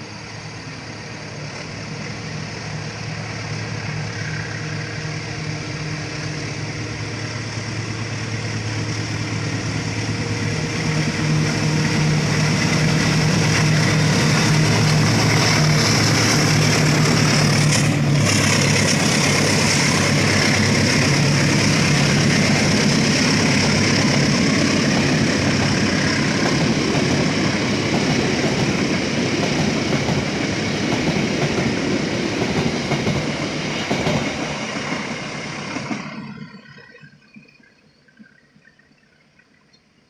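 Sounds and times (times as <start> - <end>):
train rumbling and rattling past: 0.0 - 36.9.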